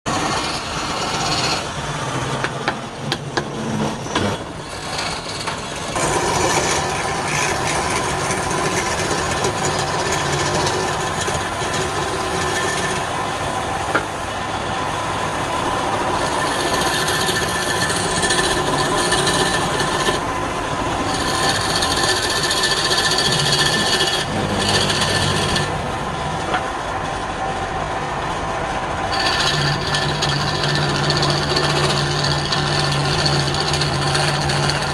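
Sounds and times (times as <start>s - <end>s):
lathe motor hum: 0.1s - 3.8s, 4.4s - 34.9s
lathe tool scraping wood: 0.1s - 14.1s, 15.5s - 26.7s, 29.1s - 34.9s.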